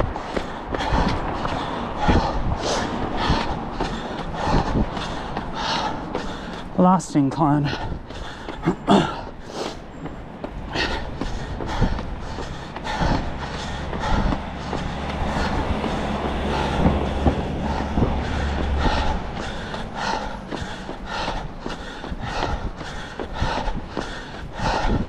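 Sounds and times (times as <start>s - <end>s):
heavy breathing: 0.0s - 6.8s, 7.6s - 25.0s
vehicle rumble passing: 0.0s - 25.0s.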